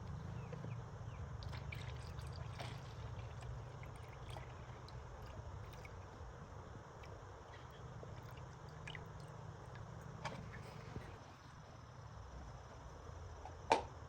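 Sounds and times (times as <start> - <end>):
low steady background hum: 0.0 - 14.0.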